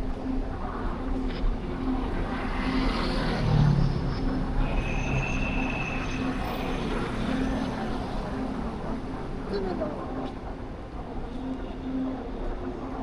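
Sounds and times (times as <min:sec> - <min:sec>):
vehicle engine hum: 0:00.0 - 0:11.5
street traffic: 0:00.0 - 0:13.0.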